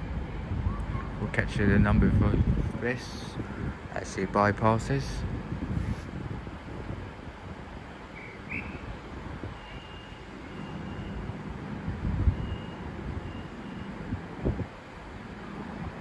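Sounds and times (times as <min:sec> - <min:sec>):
wind buffeting microphone: 0:00.0 - 0:10.0, 0:11.2 - 0:13.4, 0:14.0 - 0:14.9.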